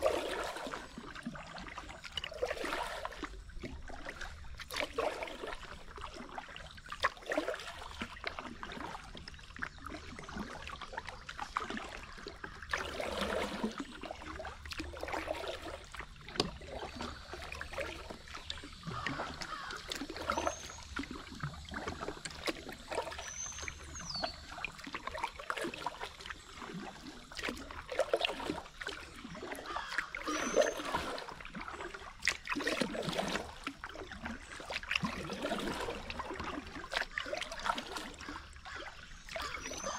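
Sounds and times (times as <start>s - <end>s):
kayak paddle strokes in water: 0.0s - 39.9s
water splashes and drips: 0.0s - 39.9s.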